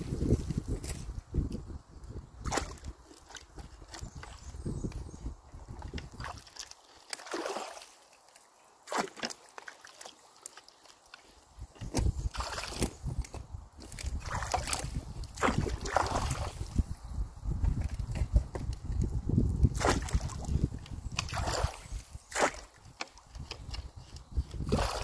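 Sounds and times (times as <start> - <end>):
water splashing and sloshing: 2.2 - 25.0.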